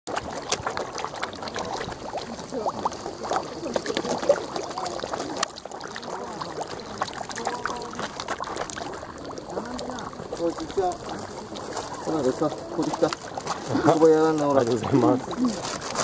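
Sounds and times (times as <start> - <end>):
fish slurping and splashing: 0.1 - 16.0.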